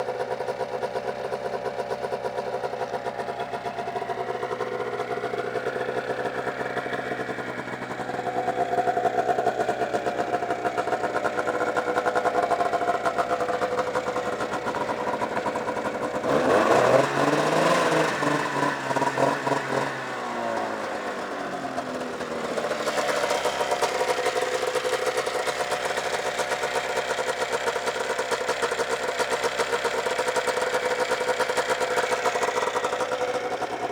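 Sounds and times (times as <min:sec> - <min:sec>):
snowmobile engine idling and revving: 0:00.0 - 0:33.9.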